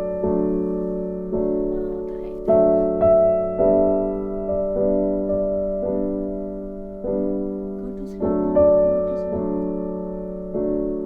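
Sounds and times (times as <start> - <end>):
gentle piano chords: 0.0 - 11.0.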